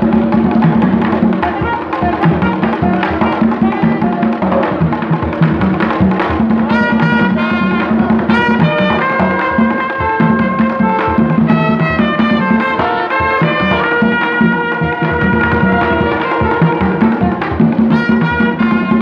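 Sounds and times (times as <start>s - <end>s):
hand drums rhythm: 0.0s - 19.0s
saxophones and trumpet held notes: 1.1s - 4.9s, 6.6s - 19.0s.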